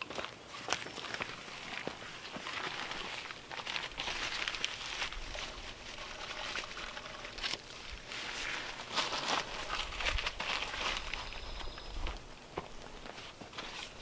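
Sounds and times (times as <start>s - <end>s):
bag rustling: 1.0s - 12.2s.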